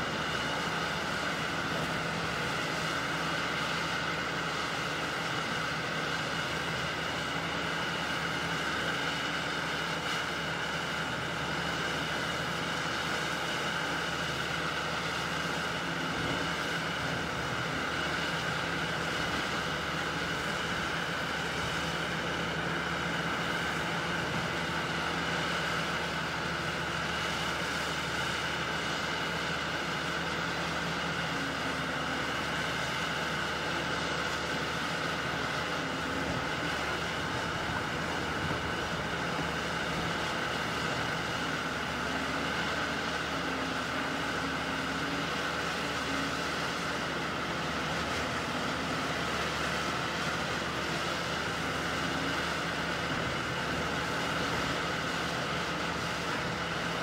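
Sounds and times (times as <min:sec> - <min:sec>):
excavator engine and hydraulics: 0:00.0 - 0:57.0.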